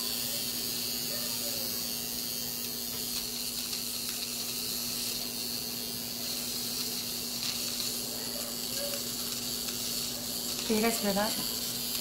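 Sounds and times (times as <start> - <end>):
eyebrow trimmer humming: 0.0 - 12.0.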